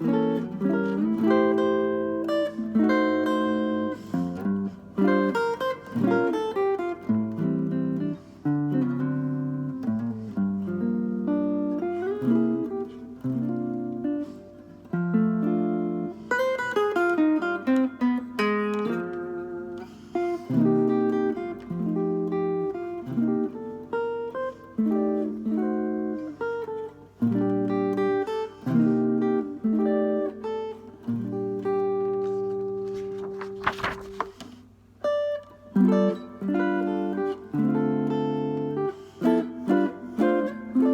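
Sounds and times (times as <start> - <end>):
solo acoustic guitar: 0.0 - 40.9.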